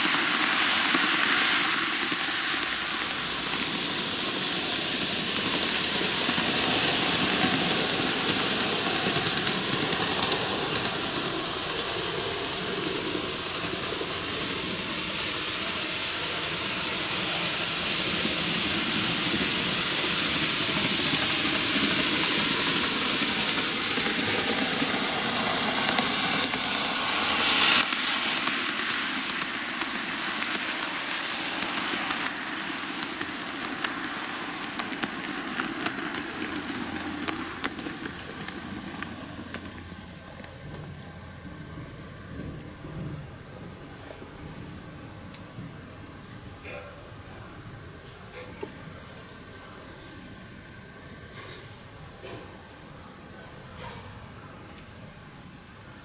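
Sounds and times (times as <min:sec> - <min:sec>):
model train wheels on rails: 0:00.0 - 0:56.0.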